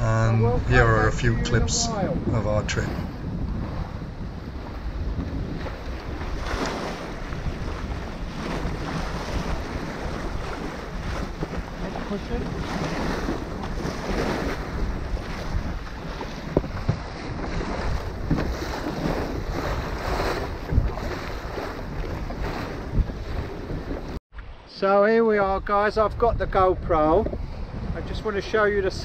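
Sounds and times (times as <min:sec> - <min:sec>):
water rushing along hull: 0:00.0 - 0:24.2, 0:24.8 - 0:29.0
wind buffeting microphone: 0:00.0 - 0:24.6, 0:25.4 - 0:29.0.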